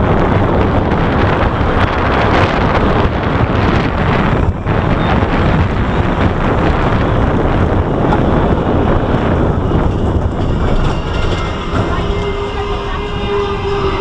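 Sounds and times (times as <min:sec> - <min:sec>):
roller coaster on steel track: 0:00.0 - 0:14.0
wind on microphone: 0:00.0 - 0:14.0.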